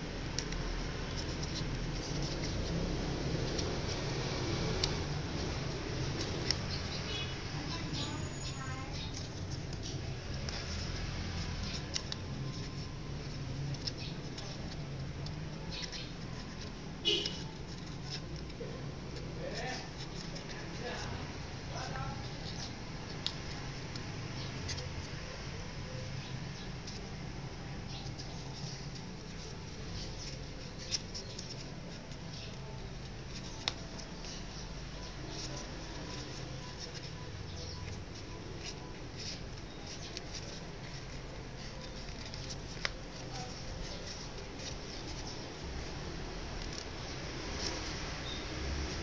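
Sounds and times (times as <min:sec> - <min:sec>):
paper crinkling and rustling: 0:00.0 - 0:49.0.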